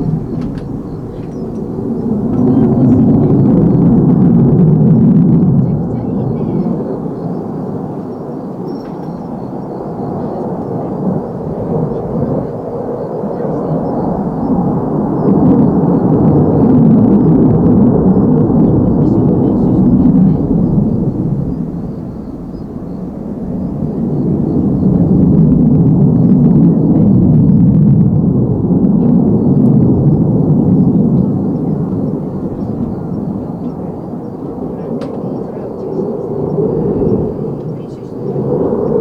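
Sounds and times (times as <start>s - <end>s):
distant fighter jet engines rumbling: 0.0s - 39.0s.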